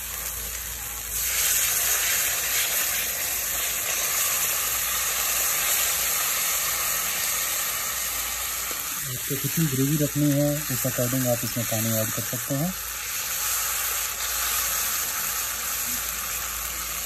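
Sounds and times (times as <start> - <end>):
water sizzling in hot pan: 0.0 - 17.0.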